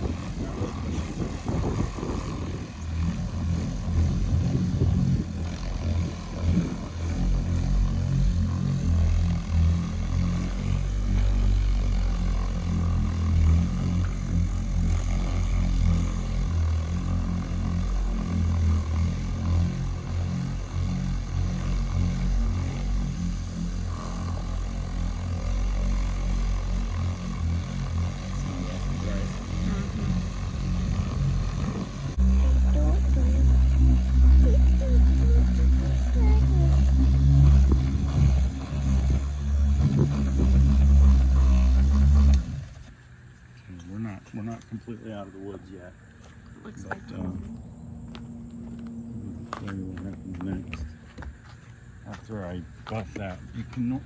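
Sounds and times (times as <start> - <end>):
polishing buffer droning: 0.0 - 54.0.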